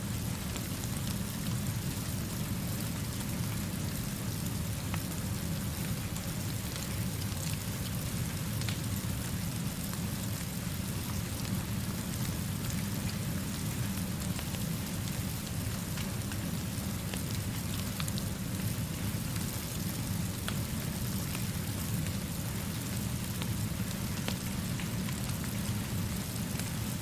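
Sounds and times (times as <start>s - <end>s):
steady rainfall hiss: 0.0s - 27.0s.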